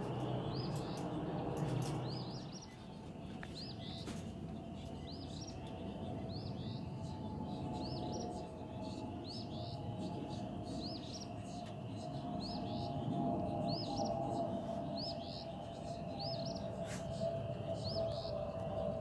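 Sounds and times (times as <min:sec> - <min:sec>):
jet airliner rumble overhead: 0:00.0 - 0:19.0
songbird chirping: 0:00.0 - 0:19.0.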